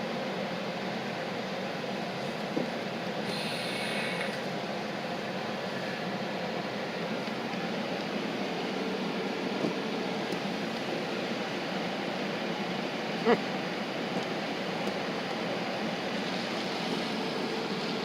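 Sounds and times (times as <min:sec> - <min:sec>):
car idling with fan running: 0:00.0 - 0:18.0.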